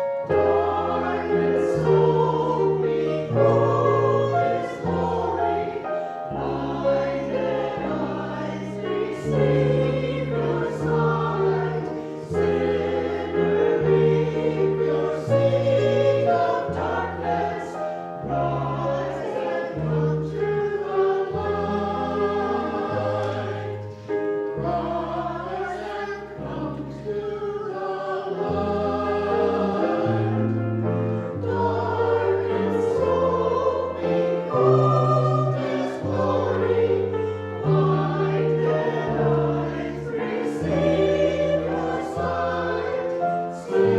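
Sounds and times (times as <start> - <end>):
choir singing a hymn: 0.0 - 43.9.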